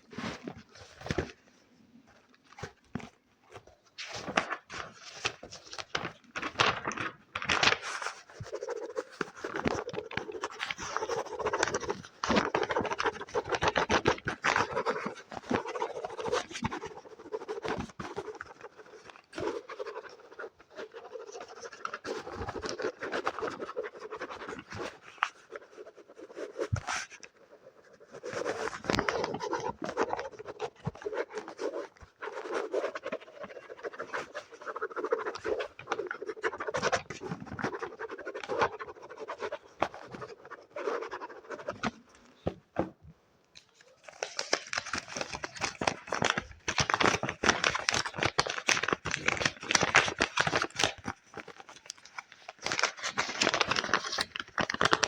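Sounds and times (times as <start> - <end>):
crinkly sound: 0.0 - 55.0.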